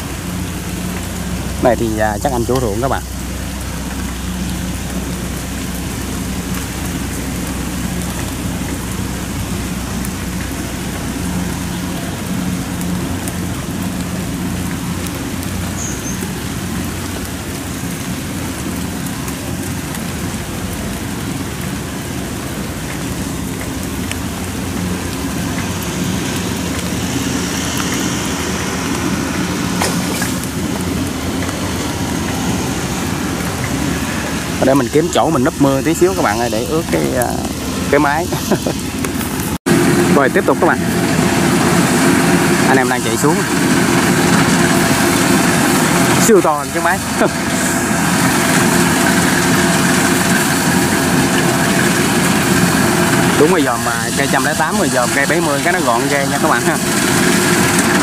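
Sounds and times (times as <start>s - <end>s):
combine harvester diesel engine: 0.0s - 58.0s
steady rain falling: 0.0s - 58.0s.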